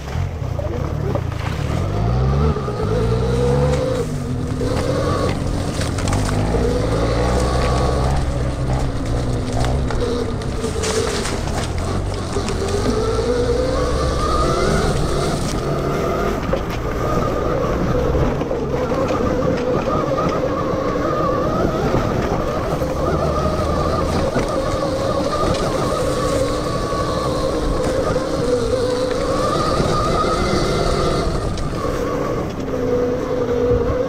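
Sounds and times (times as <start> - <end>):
electric motor whining: 1.7 - 34.0.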